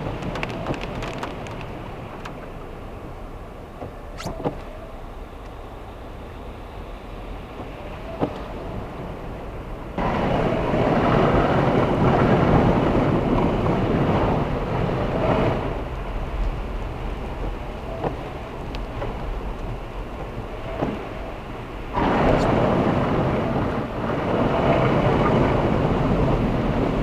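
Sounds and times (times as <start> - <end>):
road noise: 0.0 - 27.0
rushing water under car: 0.0 - 27.0.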